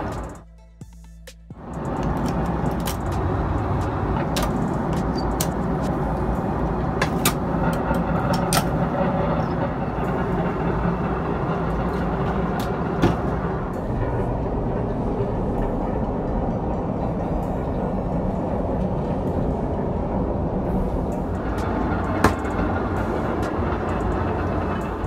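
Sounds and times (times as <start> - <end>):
airliner cabin roar: 0.0 - 0.4, 1.6 - 25.0.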